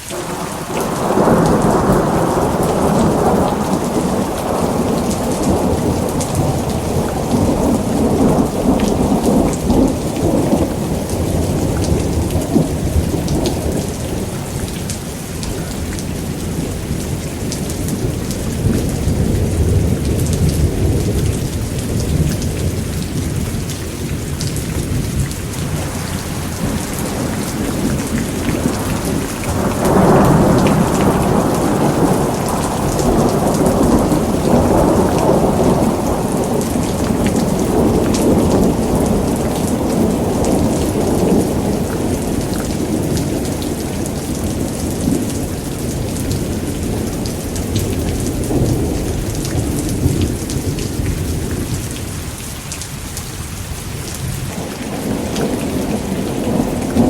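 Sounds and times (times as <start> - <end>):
heavy rain: 0.0 - 57.0
rolling thunder: 0.1 - 52.6, 53.7 - 57.0.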